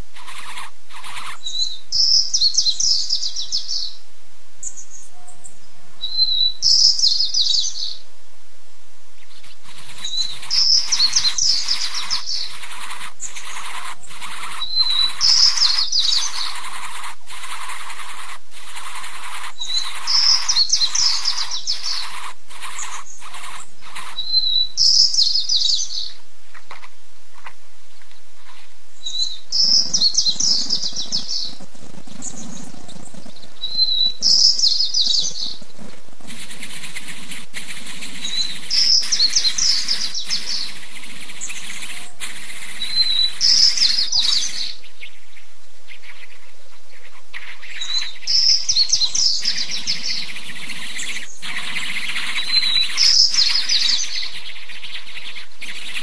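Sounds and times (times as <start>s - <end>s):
small bird song with trill: 0.0s - 4.0s, 4.6s - 8.1s, 9.2s - 26.2s, 27.9s - 56.0s
steady hiss: 7.9s - 56.0s.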